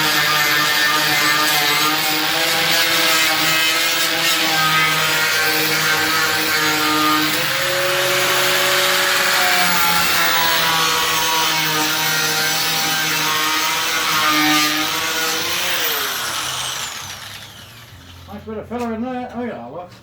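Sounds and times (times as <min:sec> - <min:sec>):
power tool cutting steel: 0:00.0 - 0:18.5.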